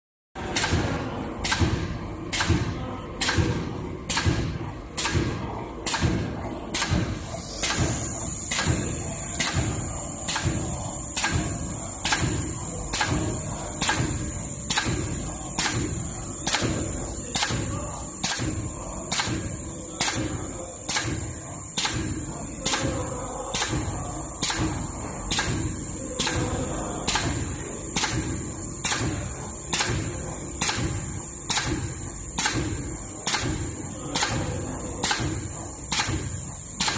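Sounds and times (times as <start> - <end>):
machine knocking: 0.4 - 36.9.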